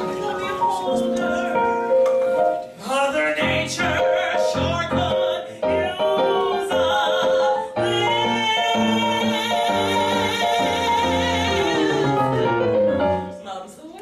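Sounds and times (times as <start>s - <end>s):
woman singing with vibrato: 0.0s - 2.0s, 2.8s - 13.9s
piano: 0.0s - 14.0s.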